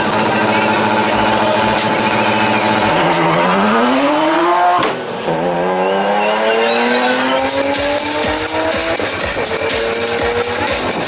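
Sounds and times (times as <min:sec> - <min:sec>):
car engines at full throttle: 0:00.0 - 0:11.0.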